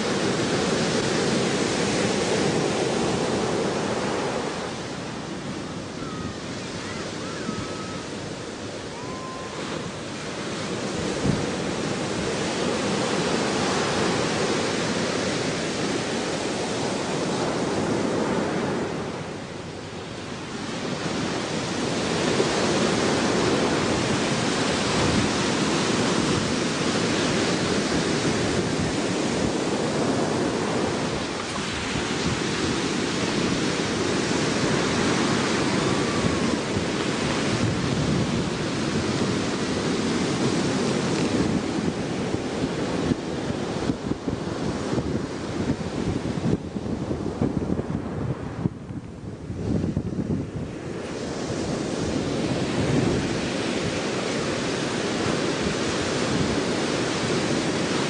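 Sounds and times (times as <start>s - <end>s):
ocean surf: 0.0s - 58.0s
wind on microphone: 0.0s - 58.0s.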